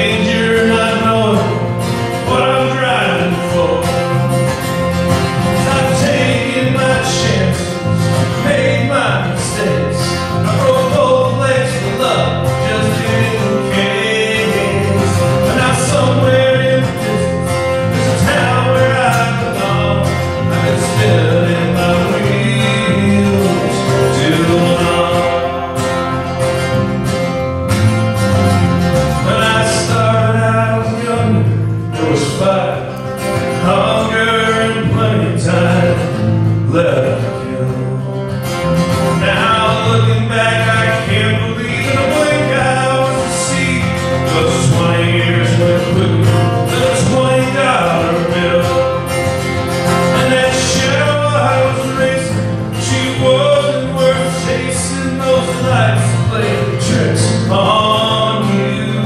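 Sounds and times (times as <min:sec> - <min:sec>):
man singing: 0:00.0 - 0:27.0, 0:28.9 - 0:59.0
acoustic guitar strumming: 0:00.0 - 0:59.0
electric bass: 0:00.0 - 0:59.0.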